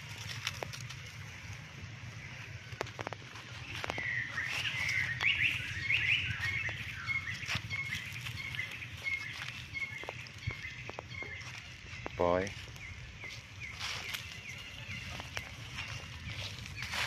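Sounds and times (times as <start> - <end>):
birds chirping: 0.0 - 17.0
footsteps on dry leaves: 0.0 - 17.0.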